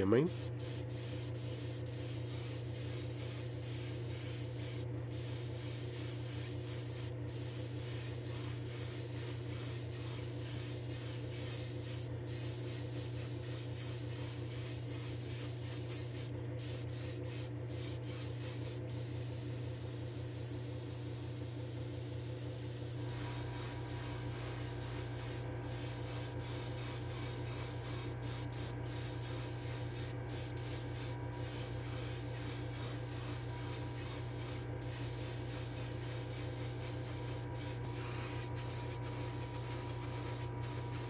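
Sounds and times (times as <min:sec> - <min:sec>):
airbrush spraying hiss: 0:00.0 - 0:41.0.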